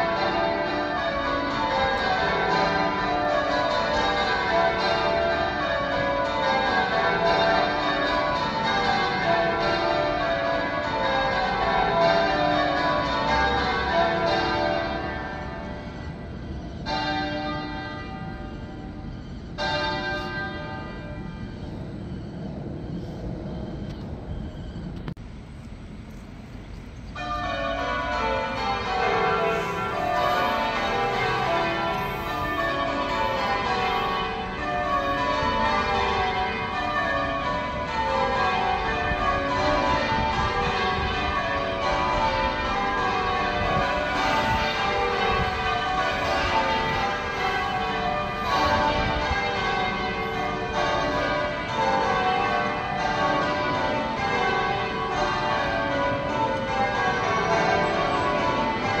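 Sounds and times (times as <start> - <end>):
church tower bells ringing: 0.0 - 59.0.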